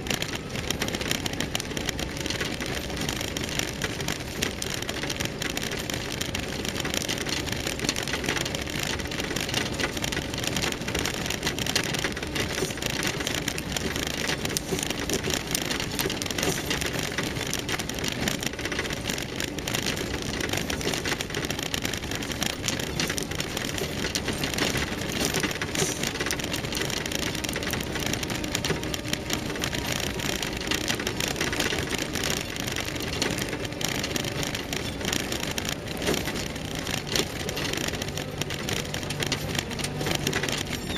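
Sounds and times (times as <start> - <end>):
car engine running: 0.0 - 40.9
tyres crunching on gravel: 0.0 - 40.9.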